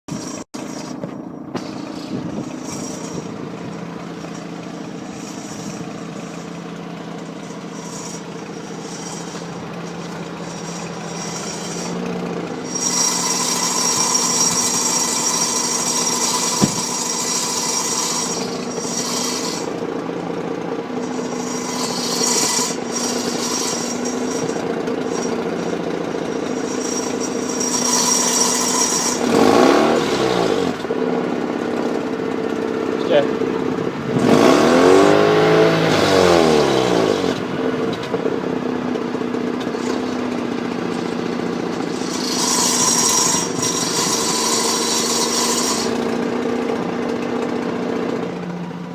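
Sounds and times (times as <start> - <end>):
rotary engine idling: 0.1 - 48.9.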